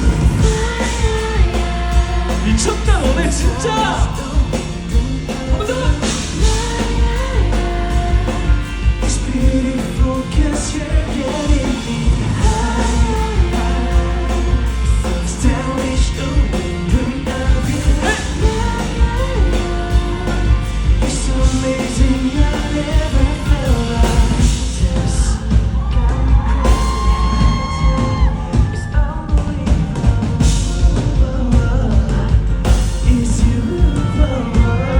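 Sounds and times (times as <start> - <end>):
drums and bass beat: 0.0 - 34.9
live band music: 0.0 - 34.9
person singing: 0.0 - 34.9.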